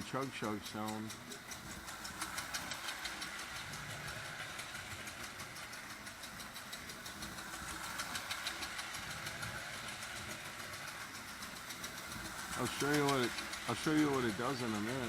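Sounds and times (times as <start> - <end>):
rapid even tapping: 0.0 - 15.0
toy train motor and wheels hum: 0.0 - 15.0.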